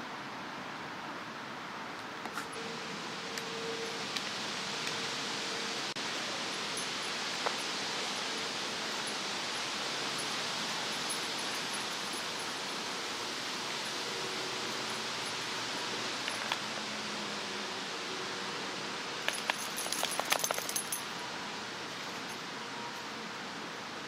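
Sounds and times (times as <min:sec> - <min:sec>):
open-air ambience hiss: 0:00.0 - 0:24.0.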